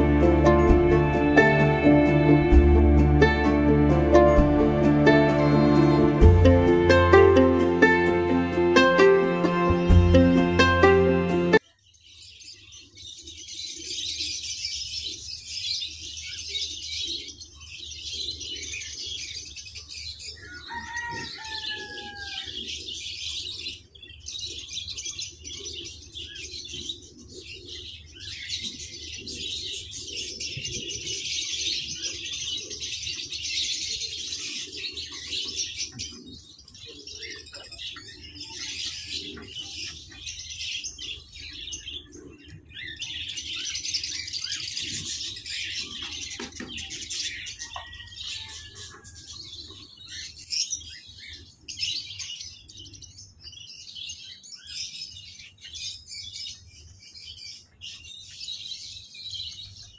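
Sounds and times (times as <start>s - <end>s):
caged birds chirping: 0.0s - 59.9s.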